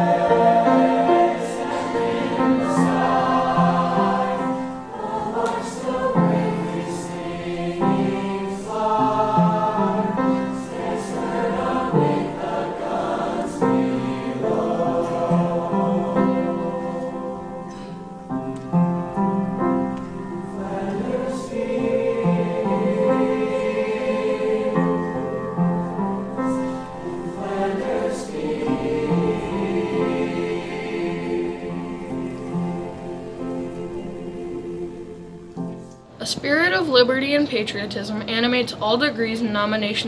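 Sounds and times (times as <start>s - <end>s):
mixed choir singing: 0.0s - 36.0s.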